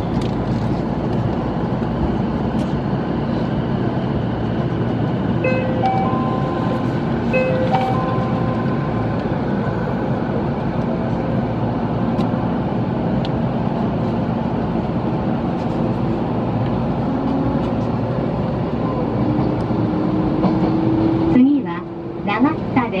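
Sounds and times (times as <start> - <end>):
train wheels on rail: 0.0 - 22.9.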